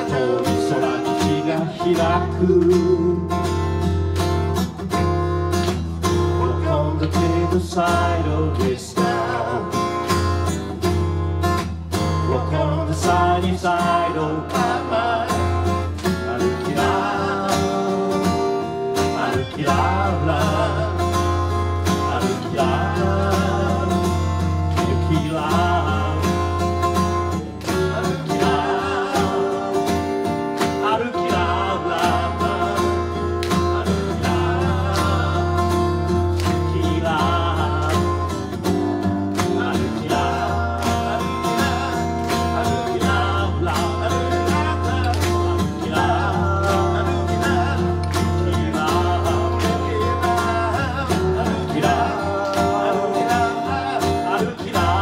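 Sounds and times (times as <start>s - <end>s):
man singing: 0.0s - 3.6s, 6.3s - 10.2s, 12.1s - 38.6s, 39.3s - 55.0s
acoustic guitar strumming: 0.0s - 55.0s.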